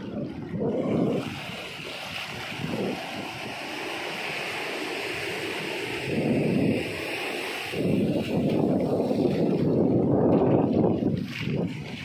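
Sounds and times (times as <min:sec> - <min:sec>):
waves breaking on sandy beach: 0:00.0 - 0:12.0.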